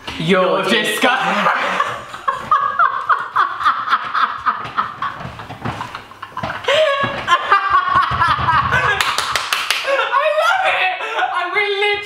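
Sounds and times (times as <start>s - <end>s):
men laughing loudly: 1.2s - 11.5s.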